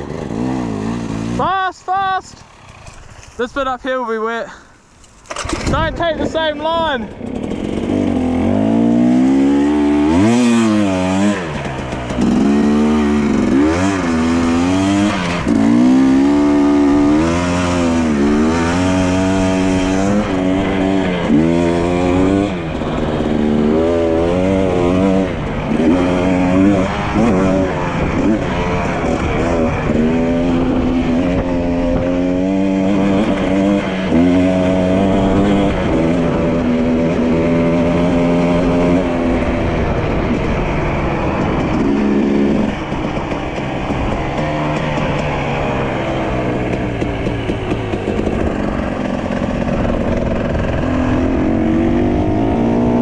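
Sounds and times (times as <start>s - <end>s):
dirt bike engine revving: 0.0s - 4.4s, 5.2s - 53.0s.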